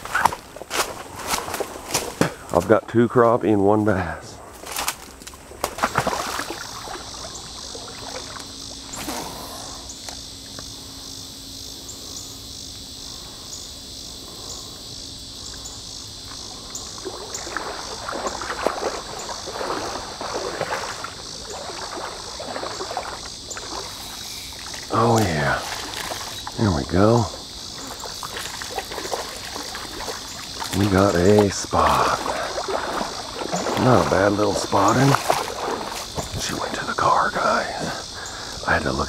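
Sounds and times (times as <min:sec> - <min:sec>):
water sloshing and splashing: 0:00.0 - 0:03.0, 0:04.4 - 0:10.3, 0:16.2 - 0:38.6
insects chirping: 0:00.0 - 0:39.0.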